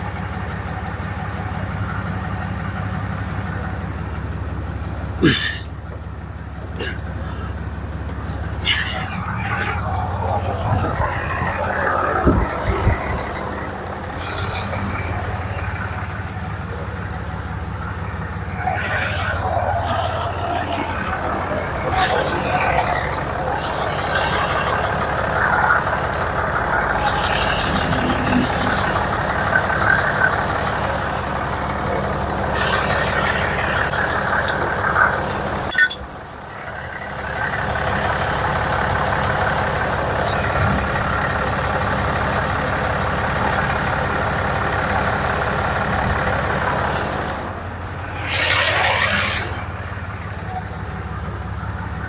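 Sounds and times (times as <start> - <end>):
machine running loudly: 0.0 - 52.0.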